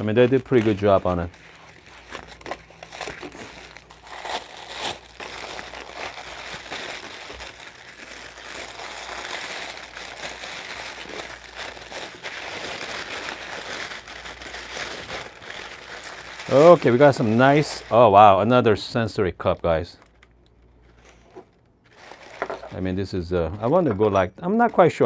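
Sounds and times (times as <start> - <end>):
paper crinkling and rustling: 0.0 - 18.3, 20.0 - 22.9.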